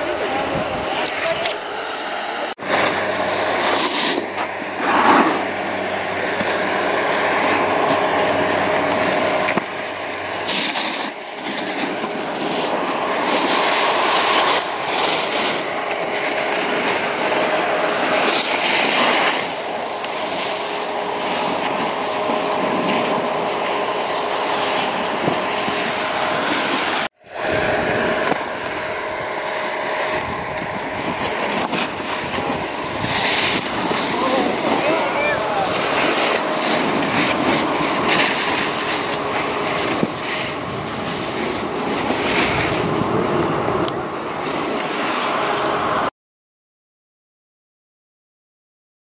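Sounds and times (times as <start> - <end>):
skis scraping on hard snow: 2.6 - 46.0.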